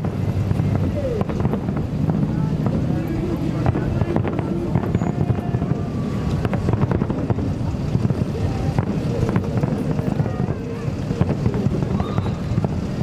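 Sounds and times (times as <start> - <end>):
fireworks bangs and crackles: 0.0 - 13.0
fireworks rumbling: 0.0 - 13.0
wind on microphone: 0.0 - 13.0.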